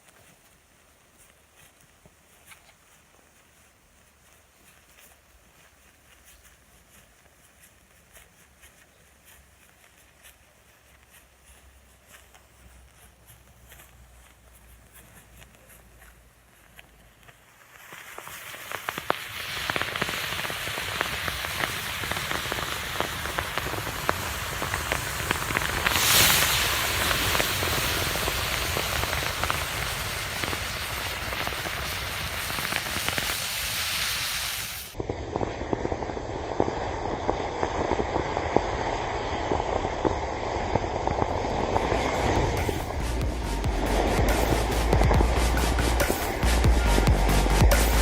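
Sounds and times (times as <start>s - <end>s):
matches crackling and popping: 0.0s - 48.0s.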